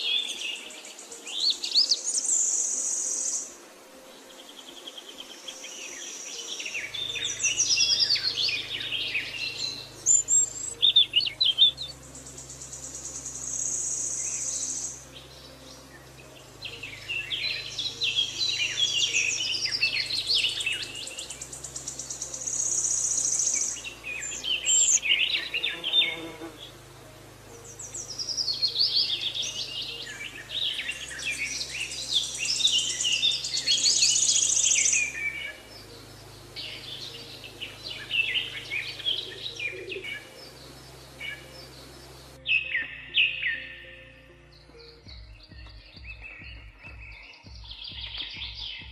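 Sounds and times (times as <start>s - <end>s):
high insect-like buzz: 0.0s - 42.4s
birds chirping and trilling: 0.0s - 48.9s
faint low drone: 6.1s - 46.7s.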